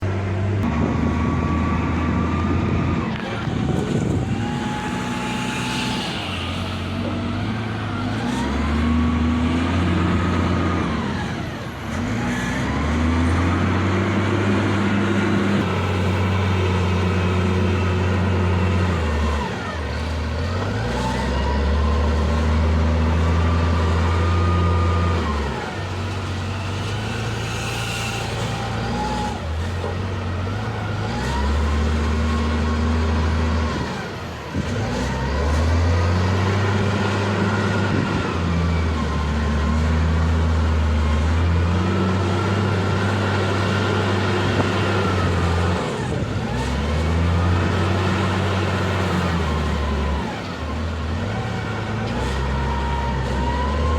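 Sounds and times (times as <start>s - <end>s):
backhoe loader diesel engine: 0.0s - 53.9s
hydraulic arm whine: 0.5s - 53.9s.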